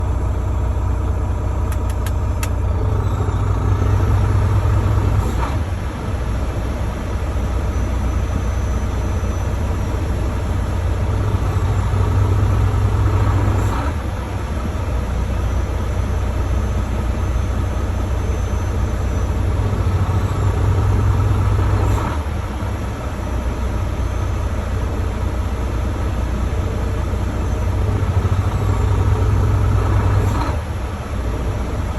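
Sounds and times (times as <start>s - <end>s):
diesel truck engine idling roughly: 0.0s - 31.9s.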